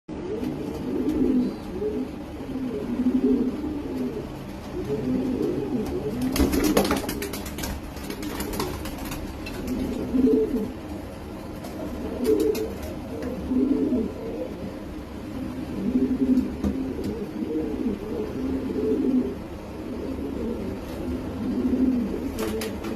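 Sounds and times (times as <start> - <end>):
pigeons cooing: 0.1 - 22.9.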